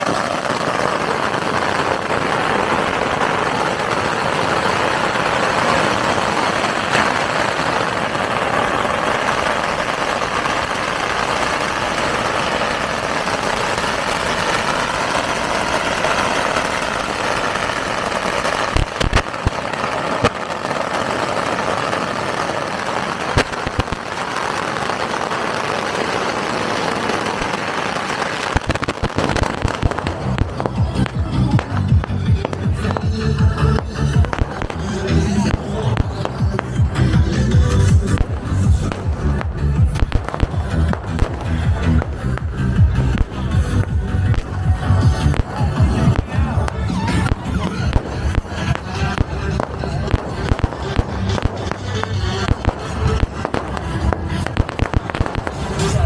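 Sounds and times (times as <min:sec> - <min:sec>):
firecracker bangs: 0:00.0 - 0:56.0
firecrackers crackling: 0:00.0 - 0:56.0.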